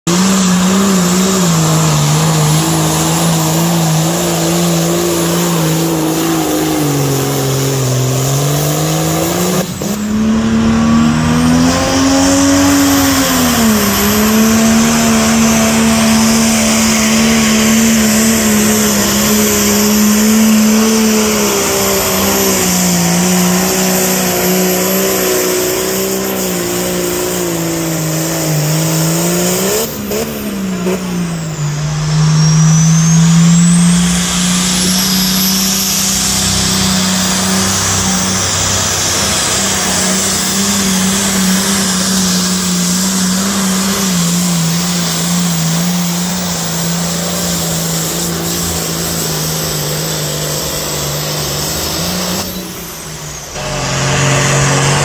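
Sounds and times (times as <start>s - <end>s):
diesel tractor engines at full throttle: 0.0s - 55.0s.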